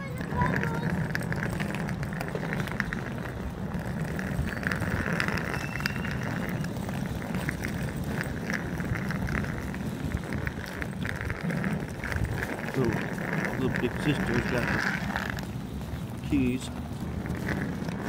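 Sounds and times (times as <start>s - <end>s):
small clicks and rattles: 0.0s - 18.0s
suitcase wheels rumbling on asphalt: 0.0s - 18.0s.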